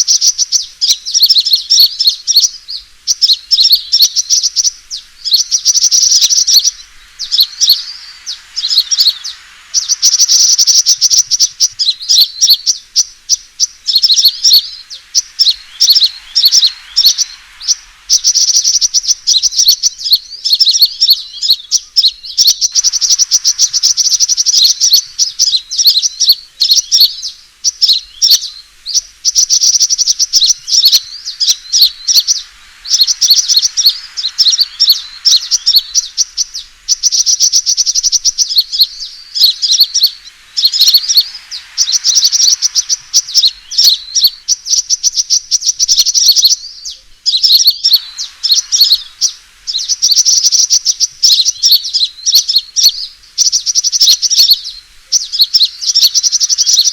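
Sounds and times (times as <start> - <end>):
bird chirps and trills: 0.0 - 56.9.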